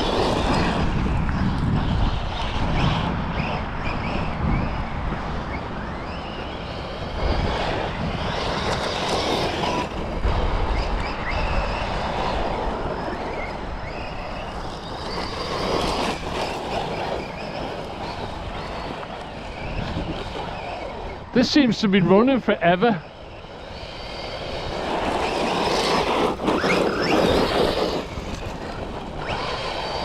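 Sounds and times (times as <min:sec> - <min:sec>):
rc car motor whining: 0:00.0 - 0:30.0.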